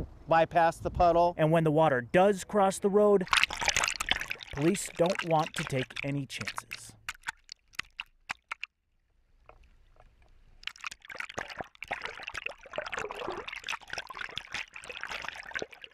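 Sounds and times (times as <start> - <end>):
floodwater sloshing and splashing: 3.1 - 15.9.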